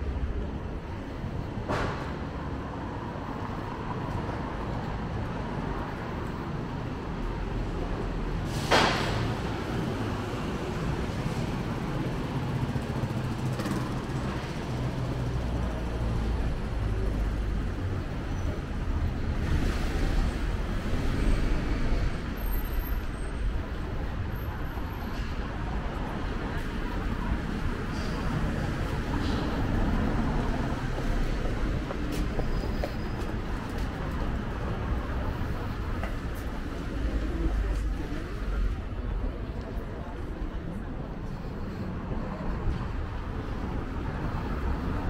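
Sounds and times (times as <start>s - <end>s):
rumble of passing vehicles: 0.0s - 45.0s.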